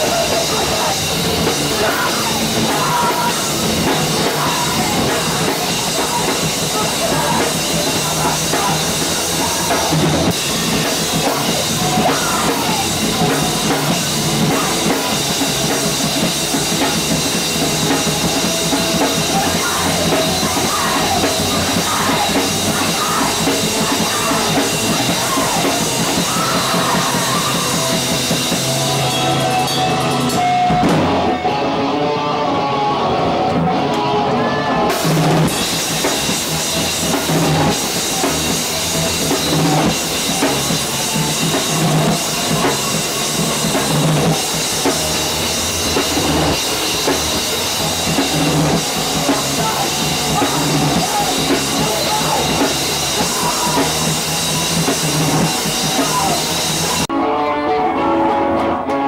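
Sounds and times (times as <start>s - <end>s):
pounding drum kit: 0.0s - 31.8s, 33.2s - 57.1s
live rock band playing: 0.0s - 59.0s
strummed electric guitar: 0.0s - 59.0s.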